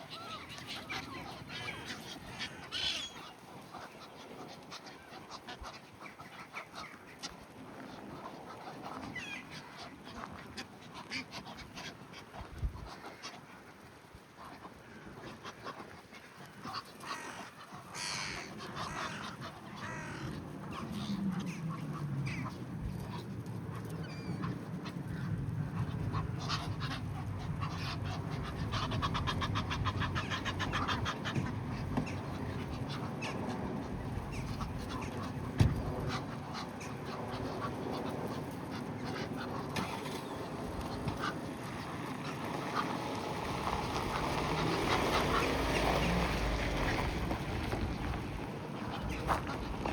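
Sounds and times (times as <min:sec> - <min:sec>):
geese and ducks calling: 0:00.0 - 0:49.9.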